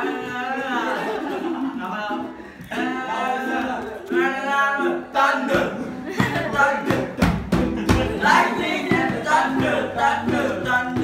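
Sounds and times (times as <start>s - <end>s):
music with singing voice: 0.0s - 11.0s.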